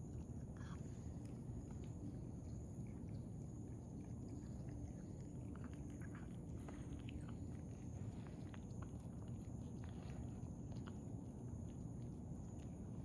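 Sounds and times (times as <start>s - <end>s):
cats chewing wet food: 0.0s - 13.0s
low background rumble: 0.0s - 13.0s.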